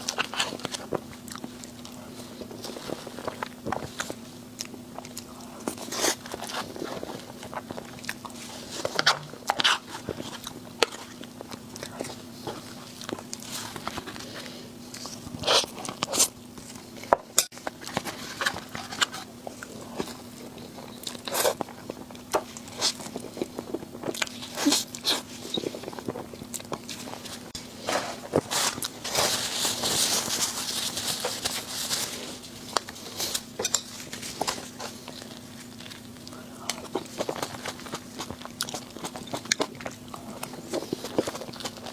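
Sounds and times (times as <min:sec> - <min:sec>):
person chewing food: 0:00.0 - 0:41.9.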